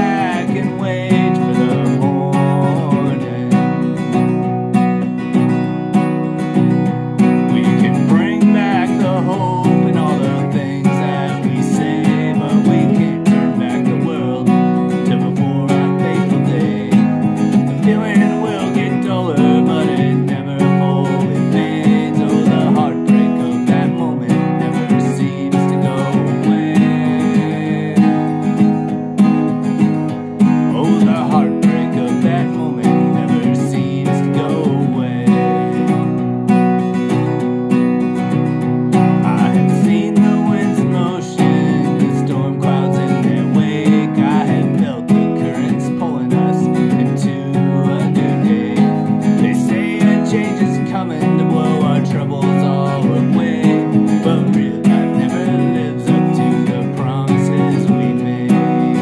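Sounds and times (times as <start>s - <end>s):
man singing: 0.0s - 6.0s, 6.6s - 59.0s
acoustic guitar strumming: 0.0s - 59.0s.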